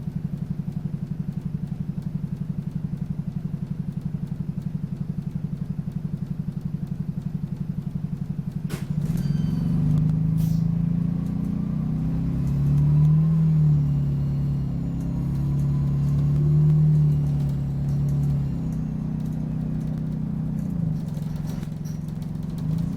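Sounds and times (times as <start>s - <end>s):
bus diesel engine: 0.0s - 22.9s.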